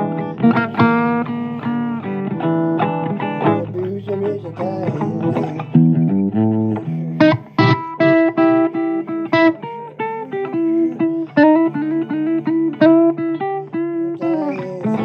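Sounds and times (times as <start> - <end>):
blues guitar playing: 0.0 - 15.0.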